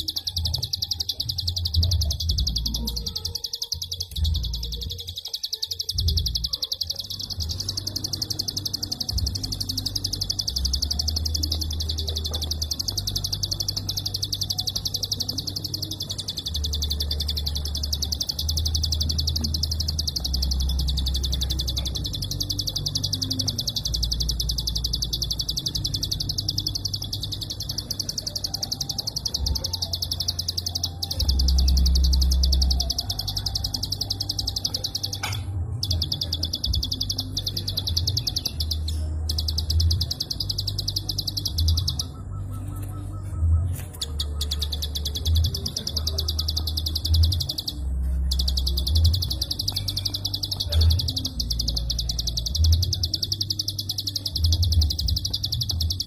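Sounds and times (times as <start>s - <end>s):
bird singing rapid clicks: 0.0s - 43.1s, 43.7s - 56.0s.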